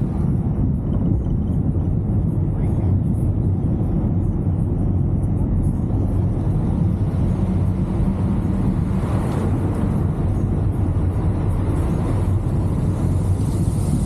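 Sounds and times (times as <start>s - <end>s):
car engine low rumble: 0.0s - 14.0s
road noise: 0.0s - 14.0s.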